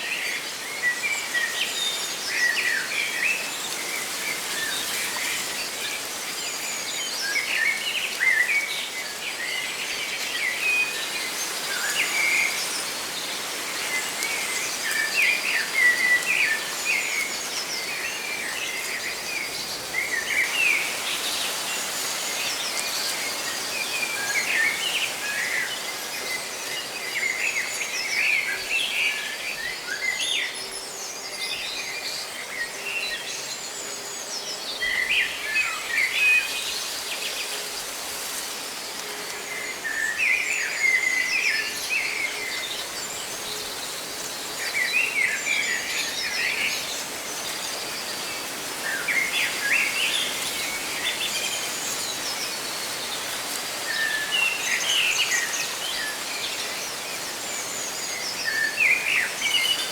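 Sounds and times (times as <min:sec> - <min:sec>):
rustling leaves: 0:00.0 - 0:59.9.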